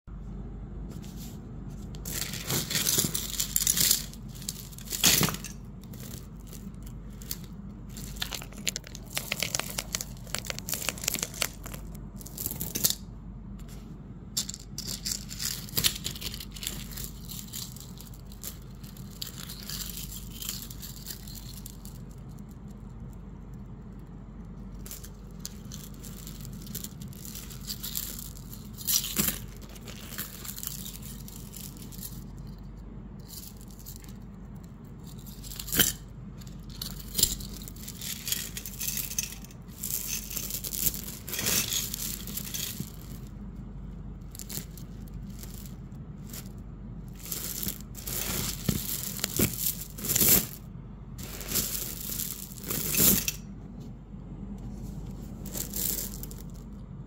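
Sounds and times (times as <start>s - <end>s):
faint low hum: 0.1s - 57.0s
glass beads clinking and rattling: 2.0s - 13.1s, 14.4s - 23.6s, 24.4s - 43.5s, 44.2s - 53.5s, 55.4s - 56.8s.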